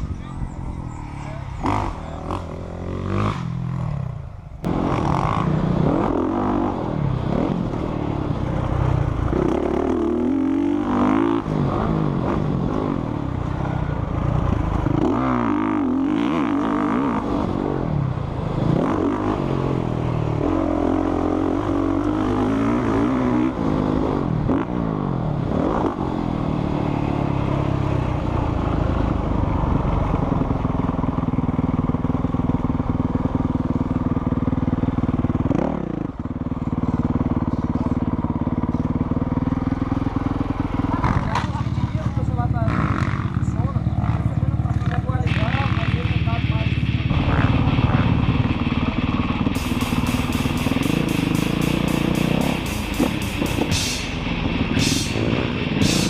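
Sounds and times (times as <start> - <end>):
motocross motorcycle engine revving: 0.0 - 28.4, 32.4 - 56.0.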